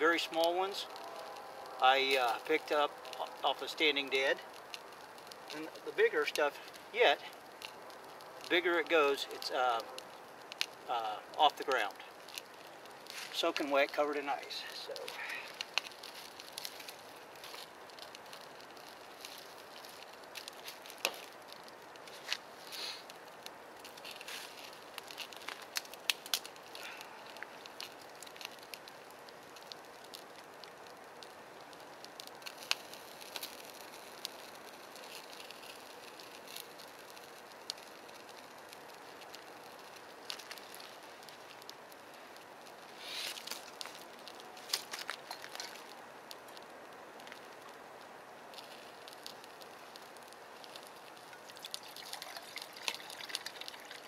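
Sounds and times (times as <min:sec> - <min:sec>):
faint steady hiss: 0:00.0 - 0:54.0
fire crackling and popping: 0:00.0 - 0:54.0.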